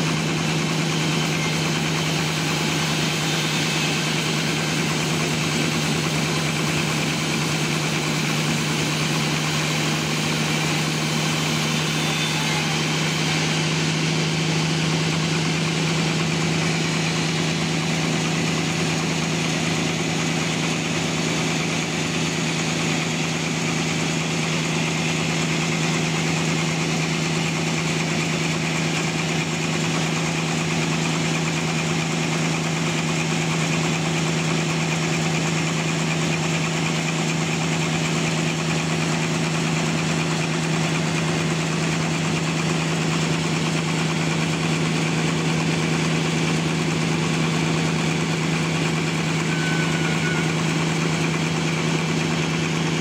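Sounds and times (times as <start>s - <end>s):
sawmill engine humming: 0.0s - 53.0s.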